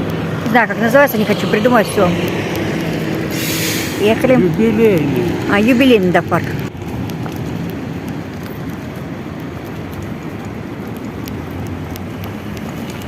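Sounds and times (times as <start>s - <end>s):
wheels rumbling over bumpy path: 0.0s - 13.0s.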